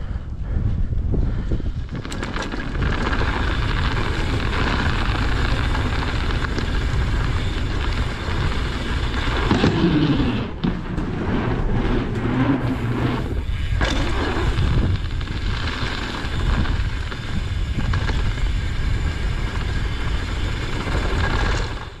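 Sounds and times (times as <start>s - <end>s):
bike clicks and rattles: 0.0s - 22.0s
wind on microphone: 0.0s - 22.0s
tyres on dirt and gravel: 1.8s - 22.0s.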